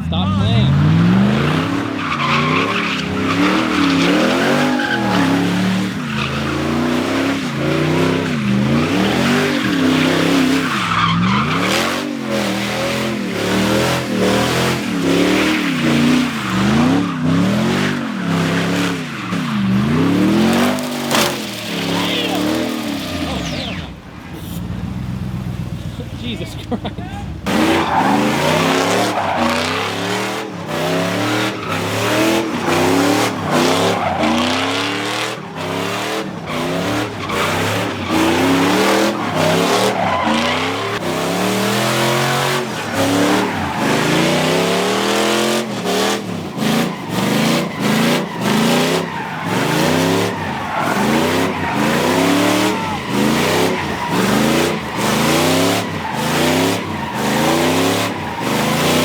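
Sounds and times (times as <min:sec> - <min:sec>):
car engine revving: 0:00.0 - 0:59.0
tires squealing on pavement: 0:00.0 - 0:59.0.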